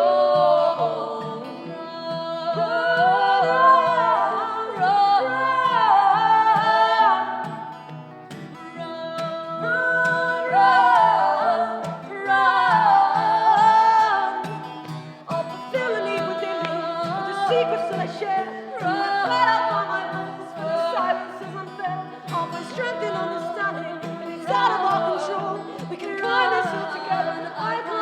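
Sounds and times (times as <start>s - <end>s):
acoustic guitar: 0.0s - 28.0s
person singing with vibrato: 0.0s - 28.0s.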